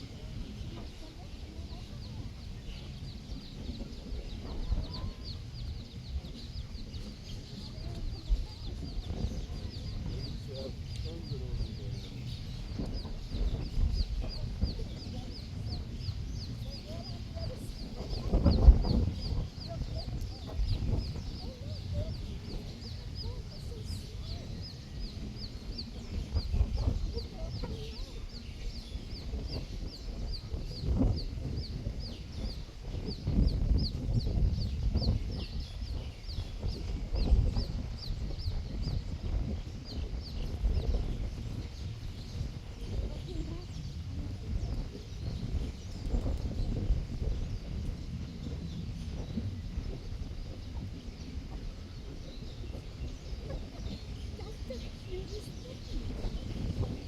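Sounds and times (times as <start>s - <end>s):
wind buffeting microphone: 0.0s - 57.0s
chicks peeping: 0.2s - 57.0s.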